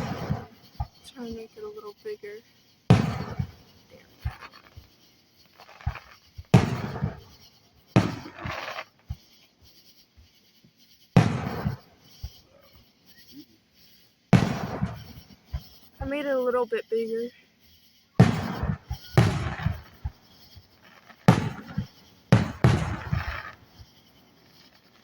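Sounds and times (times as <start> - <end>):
firework pops and crackles: 0.0 - 25.0
fireworks booming: 0.0 - 25.0.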